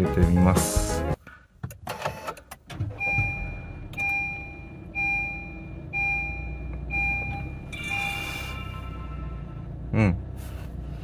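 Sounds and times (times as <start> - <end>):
car engine starting and idling: 1.7 - 11.0.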